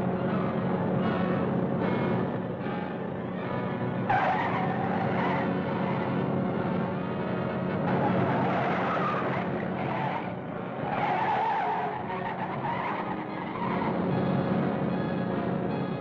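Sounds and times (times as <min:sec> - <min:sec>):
truck engine running hard: 0:00.0 - 0:16.0.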